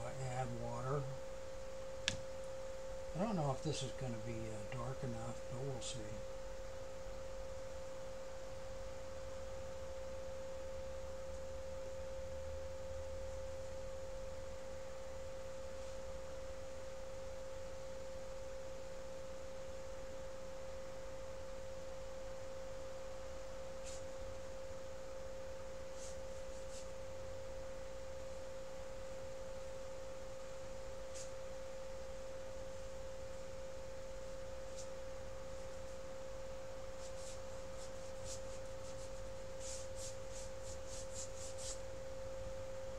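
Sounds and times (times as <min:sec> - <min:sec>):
electrical hum: 0:00.0 - 0:42.9.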